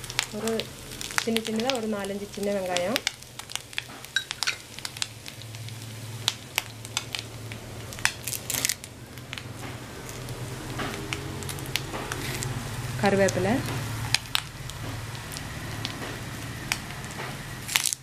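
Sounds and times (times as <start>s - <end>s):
curry leaves rustling and snapping: 0.0s - 18.0s
dry-roasting crackles in a pan: 0.0s - 18.0s.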